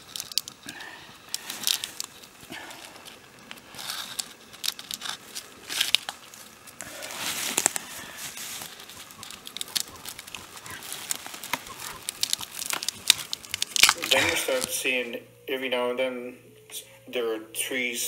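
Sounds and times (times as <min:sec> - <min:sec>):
birch bark crackling and tearing: 0:00.0 - 0:15.0.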